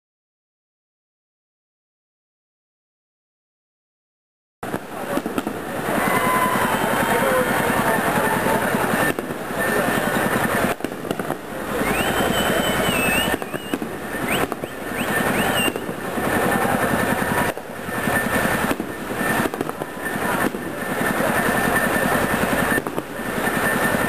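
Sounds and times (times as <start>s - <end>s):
firecracker bangs crackling: 4.6s - 24.0s
whistling firework tones: 4.7s - 24.0s.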